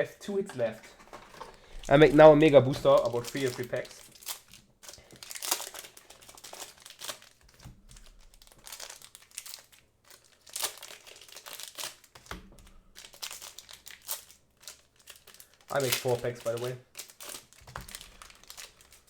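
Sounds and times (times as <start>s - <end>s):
foil wrappers crinkling: 0.3s - 19.0s
booster packs torn open: 0.4s - 19.0s.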